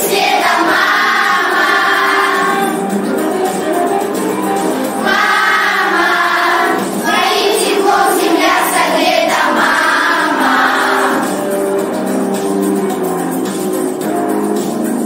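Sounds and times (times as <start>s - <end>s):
children singing together: 0.0s - 12.7s.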